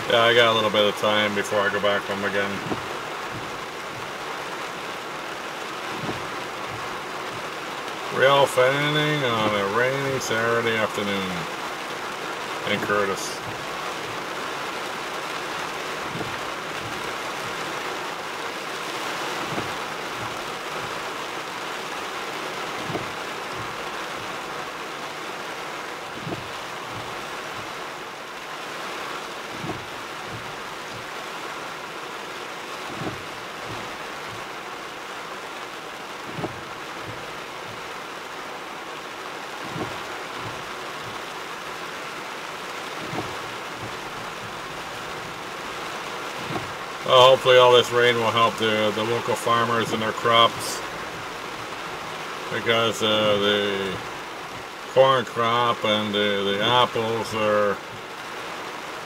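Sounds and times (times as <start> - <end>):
windshield wiper thump: 0.0 - 48.3
heavy rain on vehicle roof: 0.0 - 59.0.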